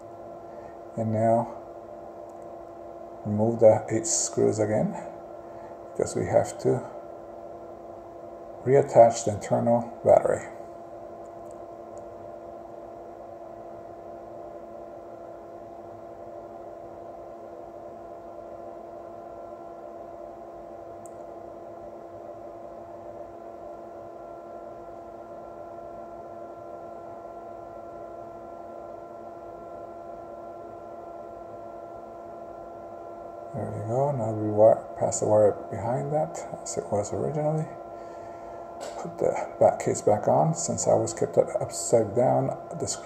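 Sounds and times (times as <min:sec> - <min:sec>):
steady electrical hum: 0:00.0 - 0:43.0.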